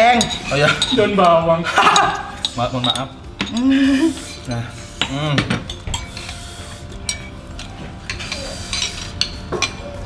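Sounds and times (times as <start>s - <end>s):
spoons scraping ceramic bowls: 0.0s - 10.0s.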